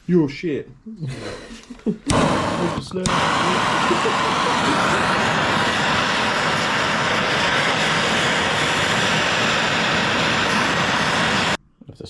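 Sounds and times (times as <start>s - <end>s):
blowtorch flame hissing: 1.2s - 11.6s.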